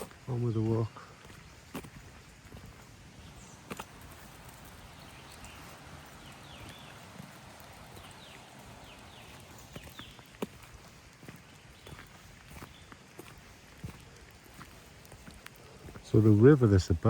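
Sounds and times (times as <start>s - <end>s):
footsteps on woodland path: 0.0s - 17.0s.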